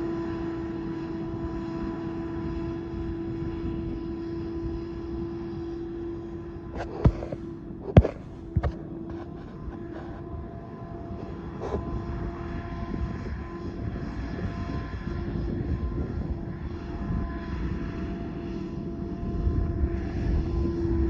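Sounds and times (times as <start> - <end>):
tractor engine droning: 0.0 - 17.1.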